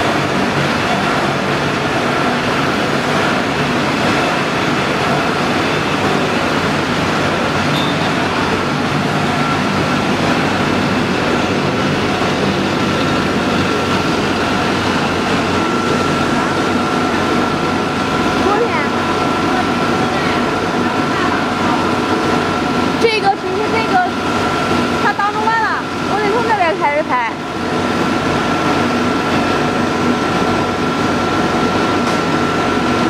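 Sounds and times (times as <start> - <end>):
machinery running: 0.0 - 33.0
thin high whine: 0.0 - 33.0.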